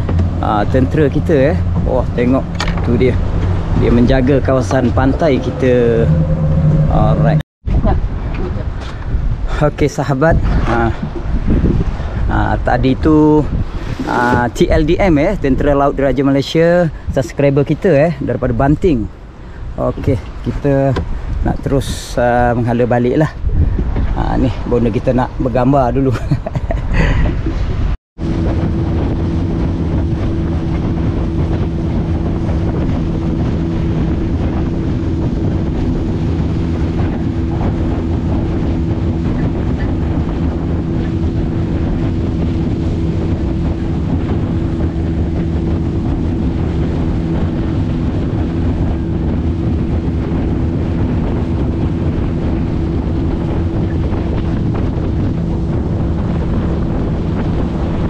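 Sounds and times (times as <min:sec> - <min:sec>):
boat engine running: 0:00.0 - 0:24.2, 0:27.3 - 0:58.0
wind buffeting microphone: 0:00.0 - 0:58.0.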